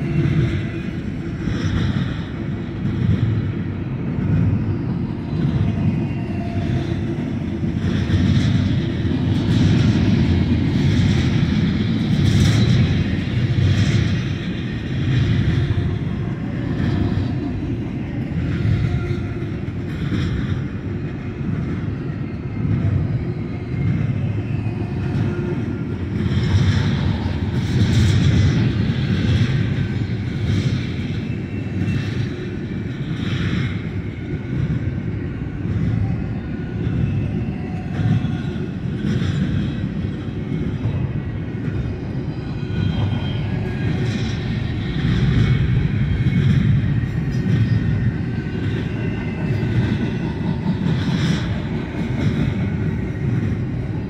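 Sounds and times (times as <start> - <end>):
train cars clanking: 0.0 - 54.0
train rolling past rumble: 0.0 - 54.0.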